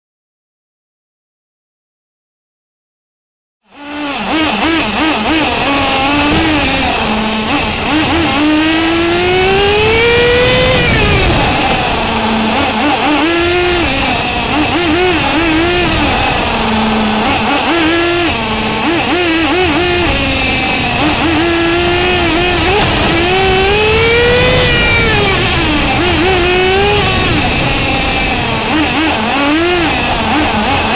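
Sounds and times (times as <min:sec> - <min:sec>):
rc car engine revving: 0:03.7 - 0:30.9.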